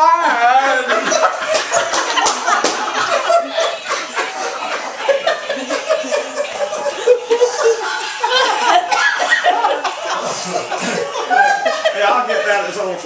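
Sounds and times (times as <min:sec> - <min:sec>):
people laughing: 0:00.0 - 0:13.0
people talking: 0:00.0 - 0:13.0.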